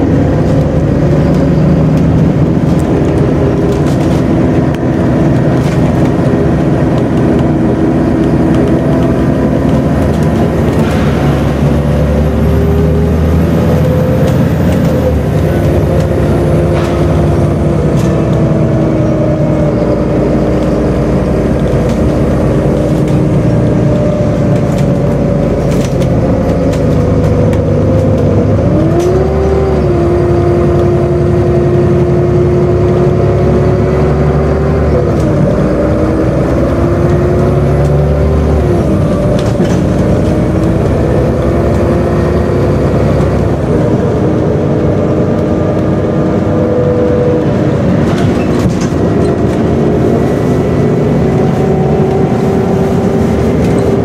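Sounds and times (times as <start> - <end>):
bus engine rumbling: 0.0 - 54.0
drivetrain whine: 0.0 - 54.0.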